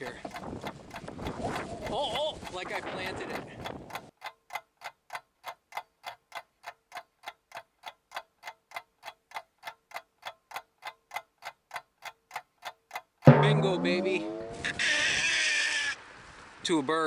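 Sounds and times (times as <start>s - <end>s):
clock-like ticking: 0.0s - 14.4s.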